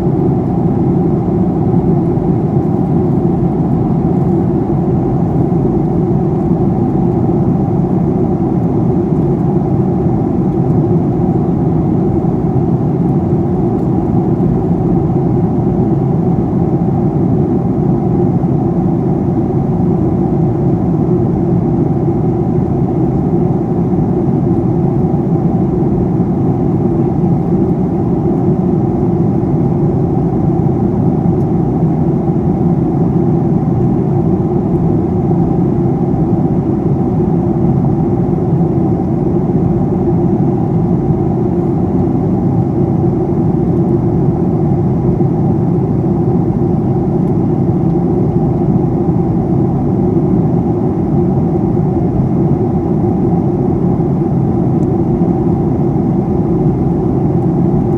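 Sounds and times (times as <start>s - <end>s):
aircraft cabin drone: 0.0s - 57.9s.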